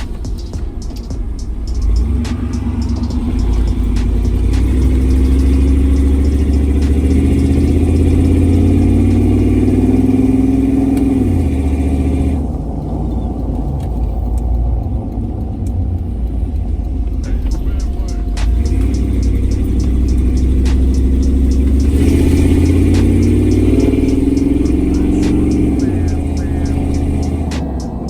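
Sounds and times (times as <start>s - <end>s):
truck engine accelerating: 0.0s - 28.0s.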